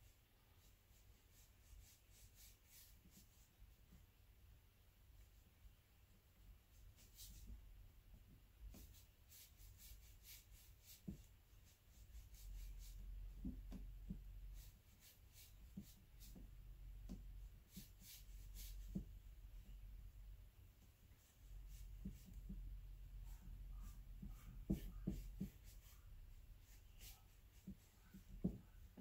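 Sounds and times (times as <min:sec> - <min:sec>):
brush scratching on paper: 0:00.5 - 0:04.0, 0:06.6 - 0:07.6, 0:08.6 - 0:16.5, 0:17.1 - 0:19.8, 0:20.7 - 0:29.0.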